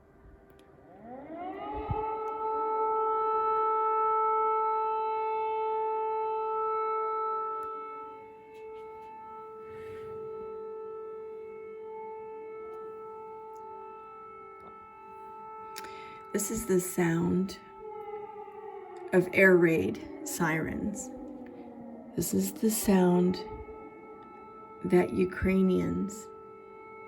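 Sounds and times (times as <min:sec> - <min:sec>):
air raid siren: 0:00.0 - 0:27.0.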